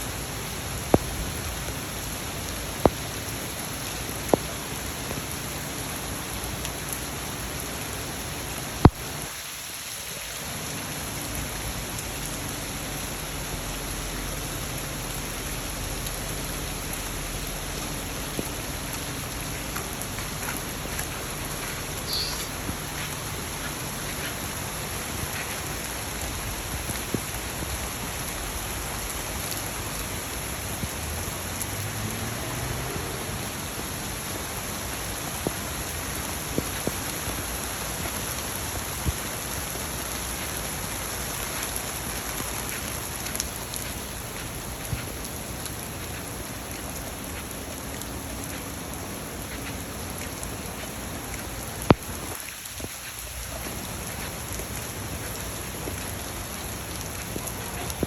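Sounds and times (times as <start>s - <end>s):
steady rain falling: 0.0s - 58.0s
sharp drip ticks: 0.1s - 9.3s, 11.2s - 58.0s.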